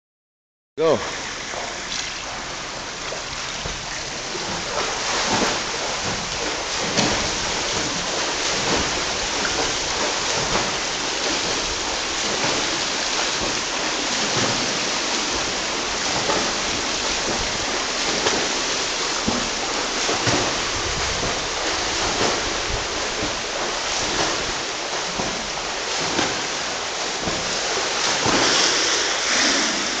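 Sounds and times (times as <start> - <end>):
rush of water: 0.8 - 30.0
swimmer splashing: 0.8 - 30.0.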